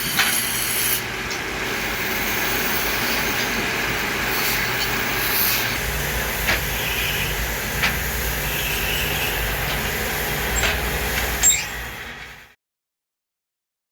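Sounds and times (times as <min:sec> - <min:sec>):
mechanical running hum: 0:00.0 - 0:12.5.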